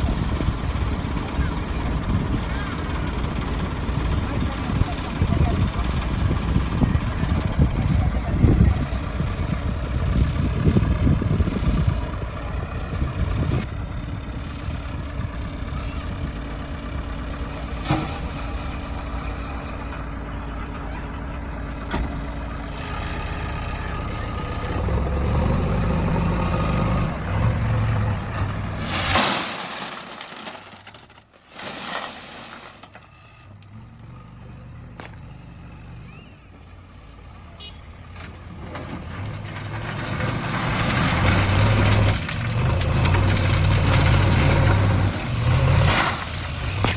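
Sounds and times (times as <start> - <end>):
heavy machinery diesel engines: 0.0 - 46.9.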